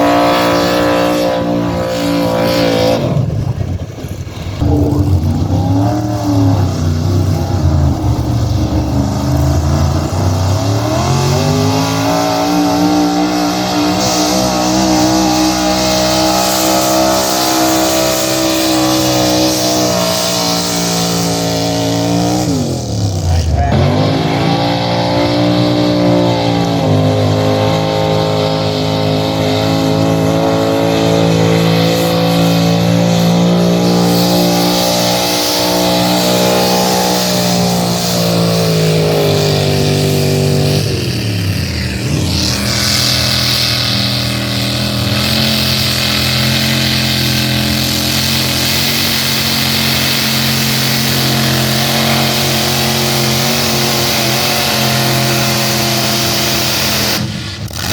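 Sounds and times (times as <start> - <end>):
engine running at high revs: 0.0 - 57.9.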